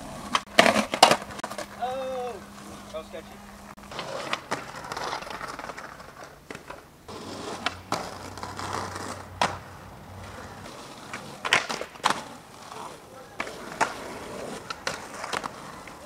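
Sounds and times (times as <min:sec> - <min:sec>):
skateboard clacking: 0:00.0 - 0:16.0
skateboard scraping on concrete curb: 0:00.0 - 0:16.0
skateboard wheels rolling on asphalt: 0:00.0 - 0:16.0.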